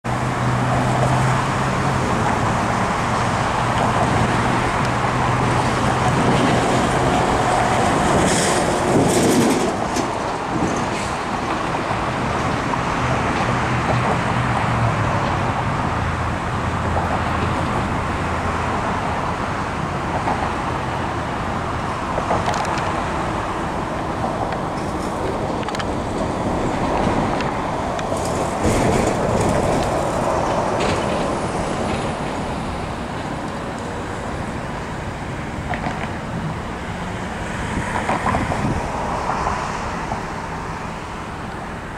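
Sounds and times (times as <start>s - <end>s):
cars passing: 0.0s - 41.9s.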